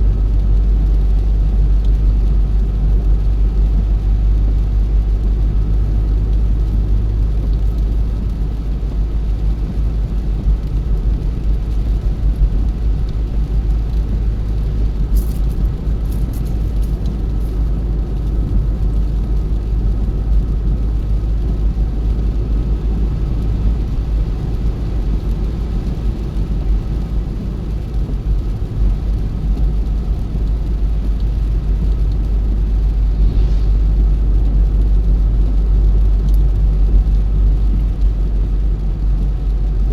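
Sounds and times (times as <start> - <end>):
car interior driving rumble: 0.0 - 39.9.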